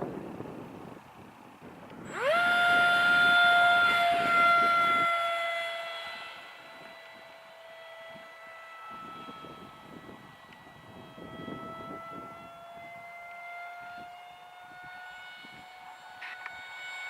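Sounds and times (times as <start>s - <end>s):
electric ducted fan whine: 0.0s - 17.0s.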